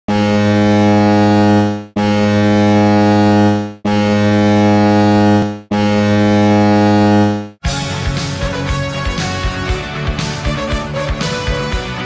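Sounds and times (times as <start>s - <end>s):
deep goal horn blasts: 0.1s - 9.8s.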